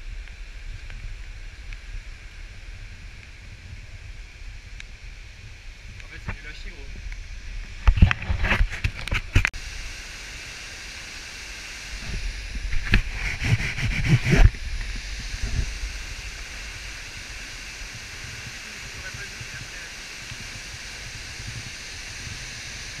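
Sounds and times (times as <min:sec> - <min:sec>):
waterfall rushing hiss: 0:00.0 - 0:23.0.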